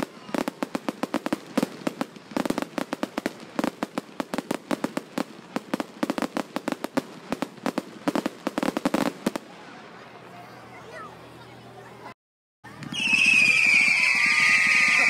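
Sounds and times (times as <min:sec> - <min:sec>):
fireworks bangs and crackles: 0:00.0 - 0:10.6, 0:12.8 - 0:15.0.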